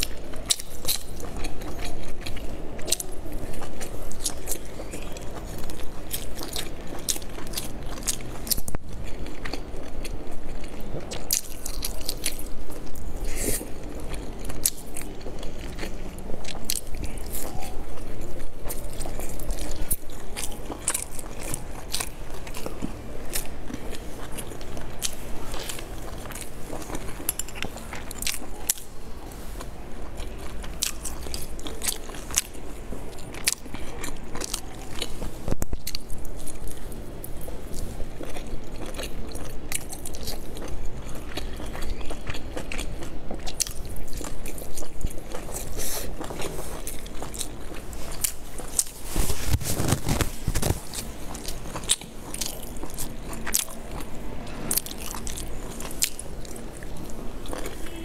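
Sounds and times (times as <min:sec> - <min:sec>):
person chewing dumplings: 0:00.0 - 0:58.0.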